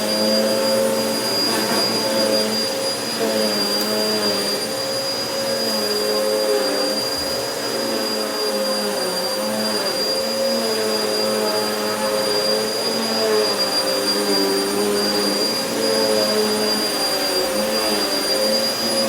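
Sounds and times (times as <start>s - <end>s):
vacuum cleaner running on carpet: 0.0s - 19.0s.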